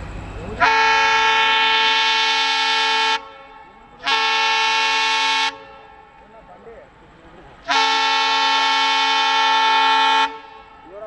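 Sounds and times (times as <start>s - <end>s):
locomotive horn blasts: 0.6s - 6.3s, 7.6s - 11.0s.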